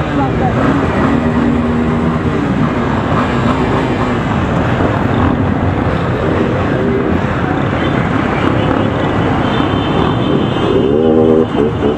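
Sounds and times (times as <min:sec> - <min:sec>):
motorcycle engine running: 0:00.0 - 0:11.9
road and wind noise: 0:00.0 - 0:11.9.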